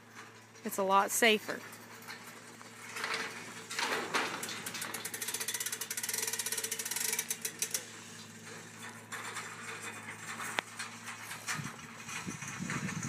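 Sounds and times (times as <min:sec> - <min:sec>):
winch gears clicking: 0:01.6 - 0:13.0.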